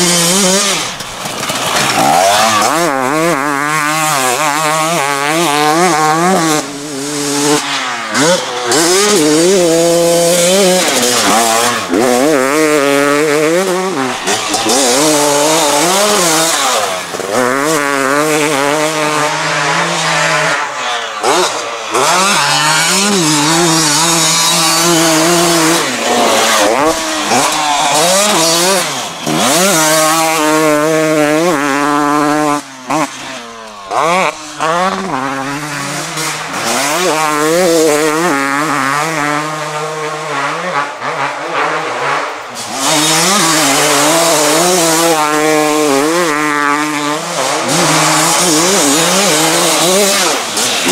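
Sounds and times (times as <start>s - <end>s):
two-stroke motorcycle engine revving: 0.0s - 50.9s.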